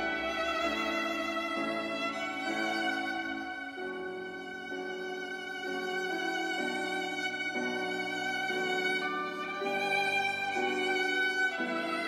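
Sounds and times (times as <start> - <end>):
solo violin slow melody: 0.0 - 12.0.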